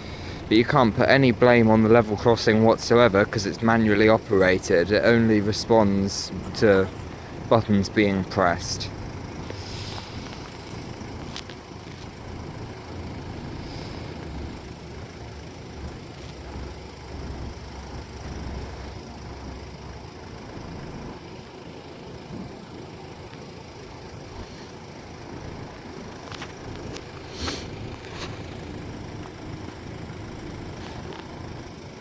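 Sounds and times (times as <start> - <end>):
low rumble of road traffic: 0.0 - 32.0.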